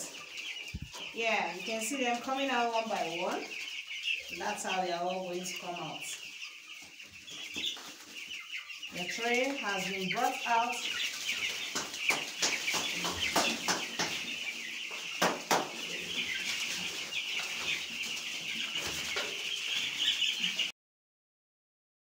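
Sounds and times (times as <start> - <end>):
chicks peeping: 0.0 - 20.7.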